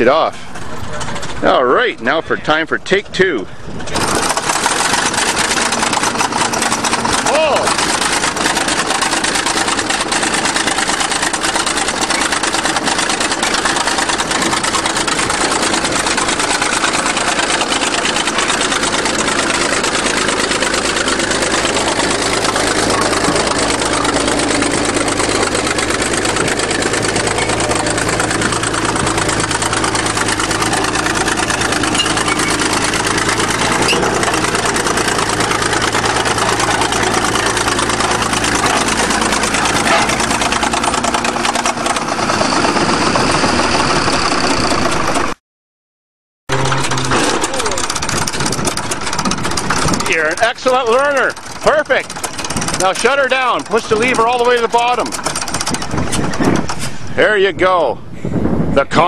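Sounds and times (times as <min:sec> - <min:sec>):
bulldozer engine running: 0:00.0 - 0:45.4, 0:46.5 - 0:58.7.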